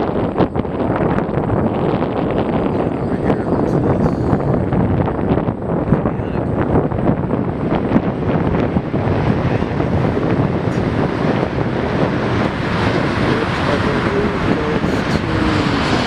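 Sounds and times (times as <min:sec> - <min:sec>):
jet airliner engine rush: 0:00.0 - 0:16.0
wind buffeting microphone: 0:00.0 - 0:16.0.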